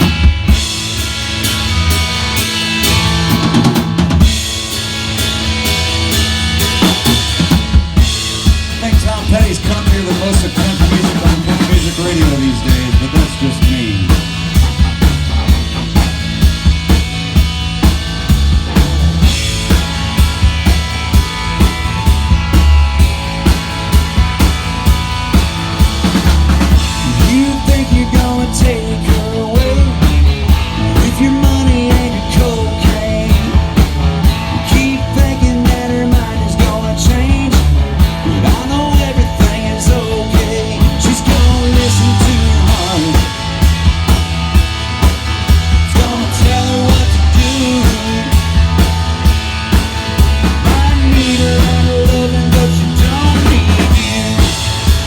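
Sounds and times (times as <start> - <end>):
bass and guitars: 0.0 - 55.0
drum kit beat: 0.0 - 55.0.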